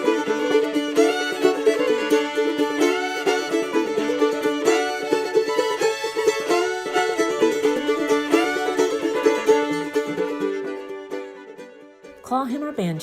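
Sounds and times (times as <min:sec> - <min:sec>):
bowed fiddle melody: 0:00.0 - 0:13.0
plucked strings: 0:00.0 - 0:13.0.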